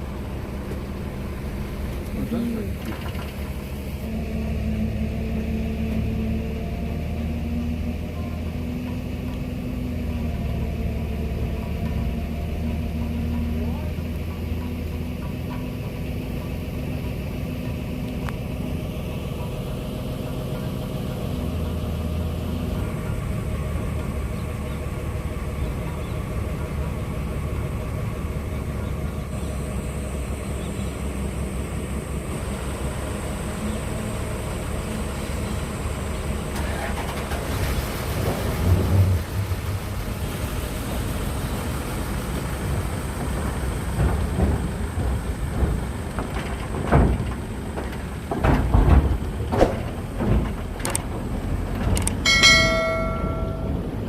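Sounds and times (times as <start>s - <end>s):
car driving rumble inside cabin: 0.0s - 54.0s.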